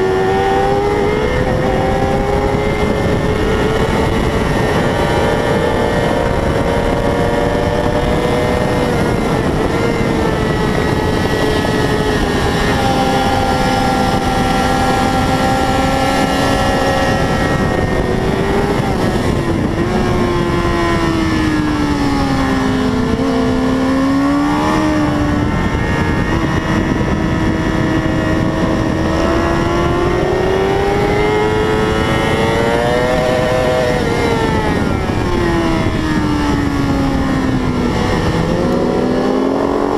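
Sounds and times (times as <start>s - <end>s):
racing motorcycle engine: 0.0s - 39.9s
wind noise: 0.0s - 39.9s.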